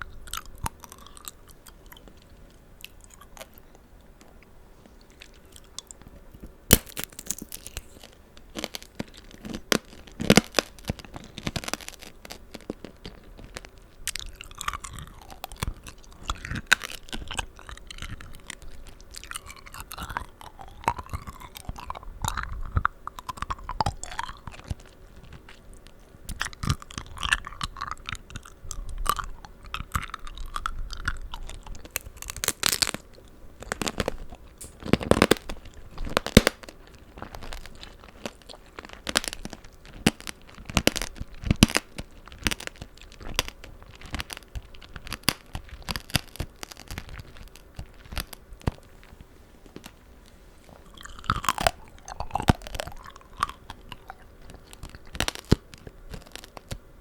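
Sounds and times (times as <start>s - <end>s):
wet chewing: 0.0s - 4.3s, 6.7s - 50.0s, 50.6s - 56.8s
hard candy crunching: 0.0s - 4.4s, 5.0s - 56.9s.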